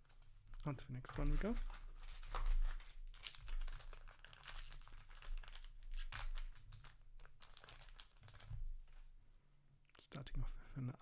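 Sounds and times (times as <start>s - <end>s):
plastic wrapper tearing and crinkling: 0.0s - 9.0s.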